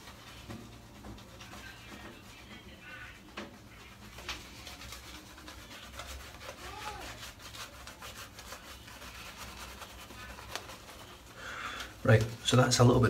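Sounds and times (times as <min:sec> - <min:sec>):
shaving brush scrubbing skin: 0:00.0 - 0:13.0.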